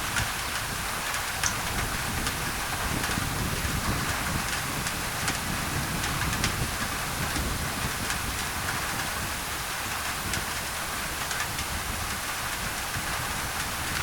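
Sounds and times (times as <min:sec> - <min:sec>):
rain on a tin roof: 0:00.0 - 0:14.0.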